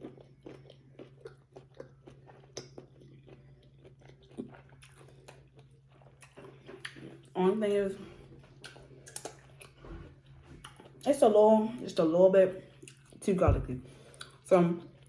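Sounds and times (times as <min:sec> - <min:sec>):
person chewing food: 0:00.0 - 0:07.4, 0:08.0 - 0:11.1, 0:12.6 - 0:13.2, 0:13.9 - 0:15.0.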